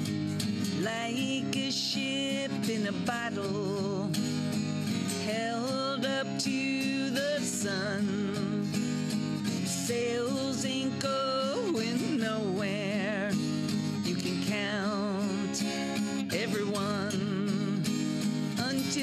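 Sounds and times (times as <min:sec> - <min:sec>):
acoustic guitar chords: 0:00.0 - 0:19.0
woman singing with vibrato: 0:00.7 - 0:04.2, 0:05.1 - 0:08.8, 0:09.6 - 0:19.0.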